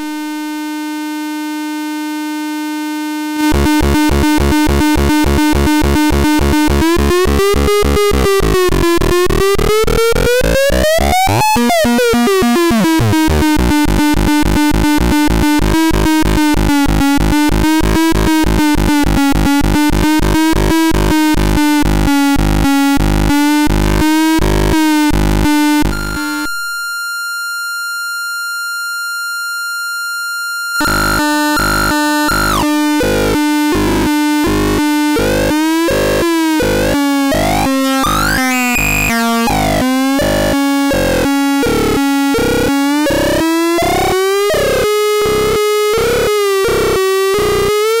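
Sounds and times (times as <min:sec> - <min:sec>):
pulsing square-wave synthesizer tones: 0:00.0 - 0:48.0.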